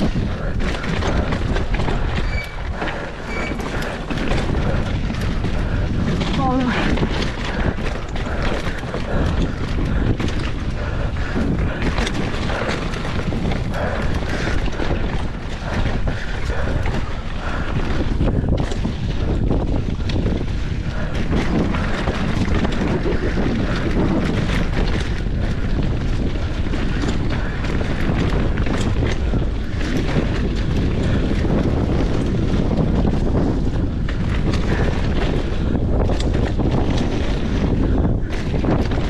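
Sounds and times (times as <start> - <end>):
bike knocking and rattling: 0.0 - 39.0
tyres rumbling on dirt: 0.0 - 39.0
wind buffeting microphone: 0.0 - 39.0.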